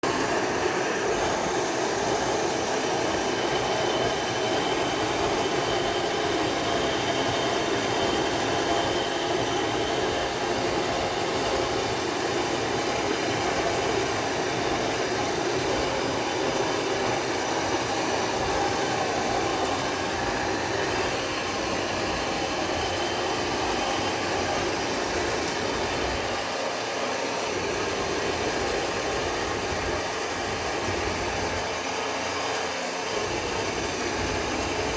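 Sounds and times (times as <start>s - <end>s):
mixing machine running: 0.0s - 34.9s.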